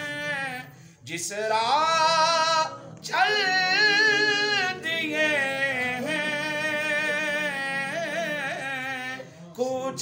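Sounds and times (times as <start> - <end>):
man singing unaccompanied: 0.0 - 10.0.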